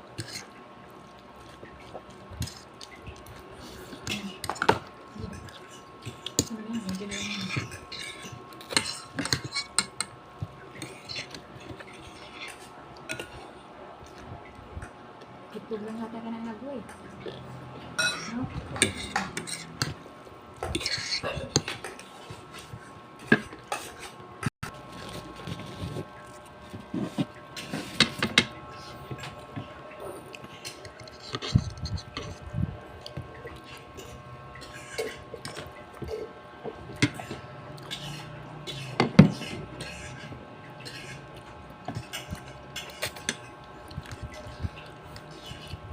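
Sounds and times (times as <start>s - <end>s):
low background hum: 0.0s - 45.9s.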